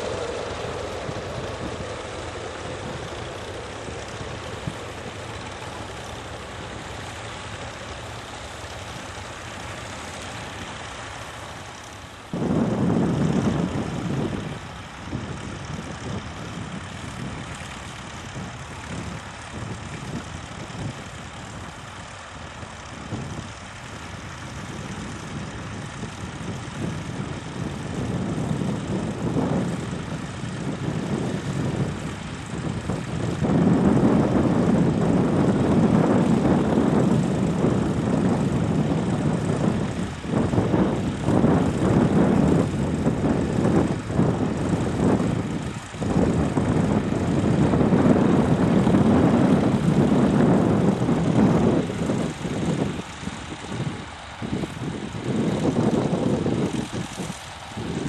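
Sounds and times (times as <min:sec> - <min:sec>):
tractor engines running under load: 0:00.0 - 0:58.0.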